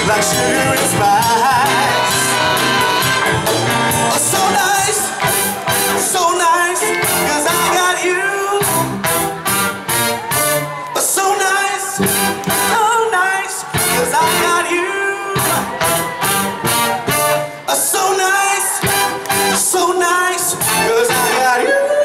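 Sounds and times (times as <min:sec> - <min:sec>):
person singing: 0:00.0 - 0:08.9, 0:10.9 - 0:22.0
live soul band playing: 0:00.0 - 0:22.0.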